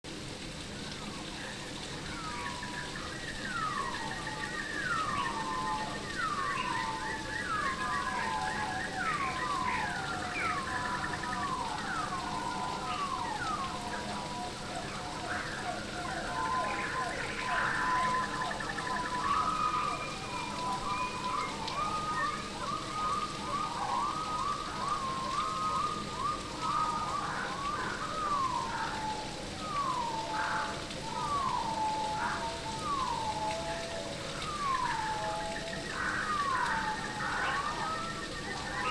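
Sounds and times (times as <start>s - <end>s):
steady rainfall: 0.0s - 38.9s
birds calling in falling whistles: 0.7s - 38.9s.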